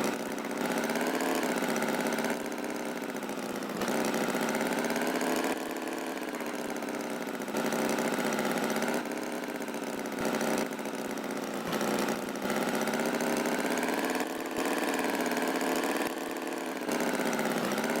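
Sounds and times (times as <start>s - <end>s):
buzzing cartoon tractor engine: 0.0s - 18.0s.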